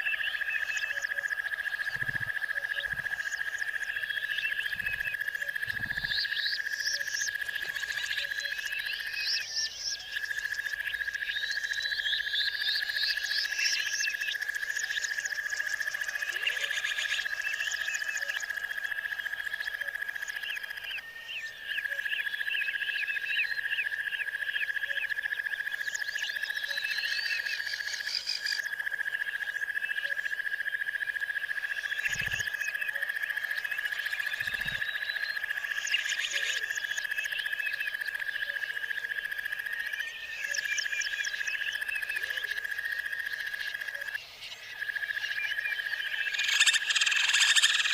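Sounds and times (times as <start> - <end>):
chirping bird calls: 0.0 - 28.7, 31.6 - 47.9.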